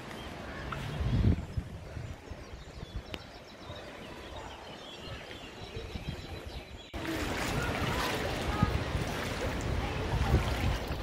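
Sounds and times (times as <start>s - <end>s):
wind or surf: 0.0s - 11.0s.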